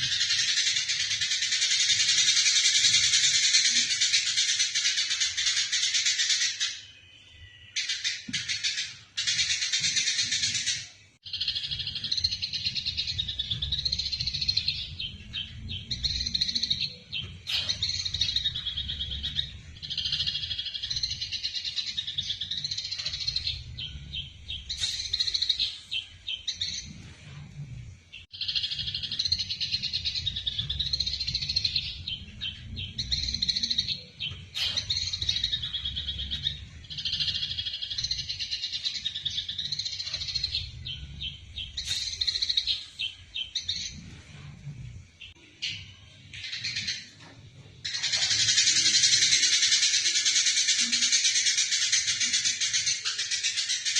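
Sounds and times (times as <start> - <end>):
sparrows chattering chirps: 0.0 - 53.9.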